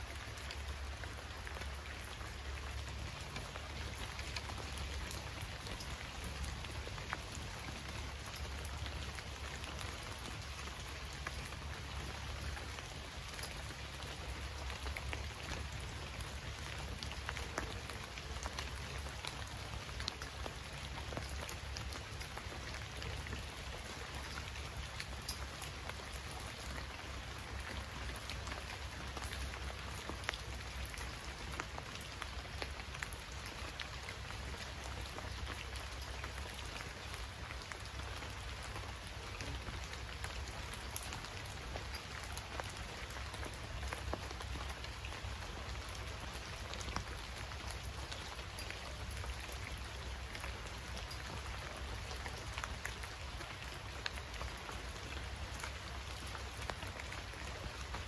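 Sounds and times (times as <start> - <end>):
raindrops ticking: 0.0 - 58.0.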